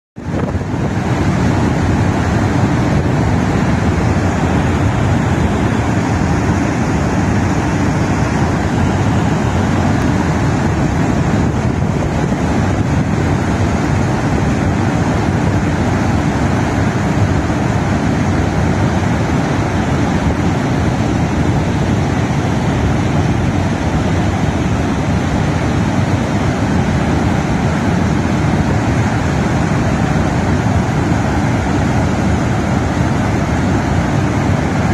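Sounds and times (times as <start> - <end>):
water rushing through spillway: 0.2 - 34.9.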